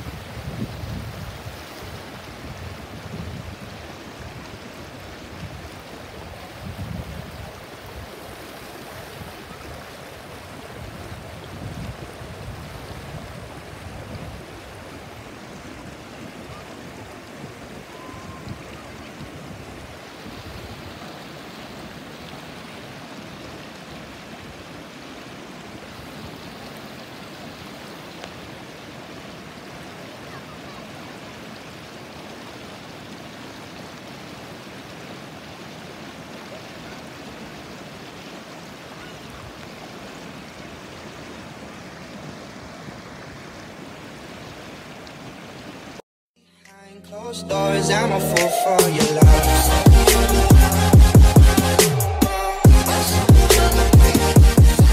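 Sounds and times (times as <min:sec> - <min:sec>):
stream rushing over stones: 0:00.0 - 0:46.0, 0:47.5 - 0:54.9.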